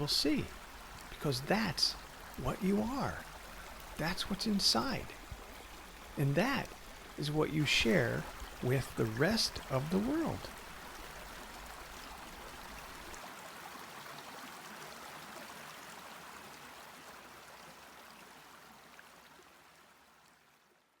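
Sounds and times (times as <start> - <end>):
stream water rushing: 0.0 - 19.7.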